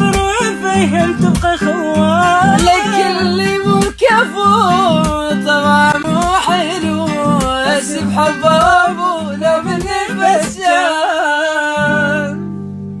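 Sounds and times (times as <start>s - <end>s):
man singing ornamented melody: 0.0s - 12.4s.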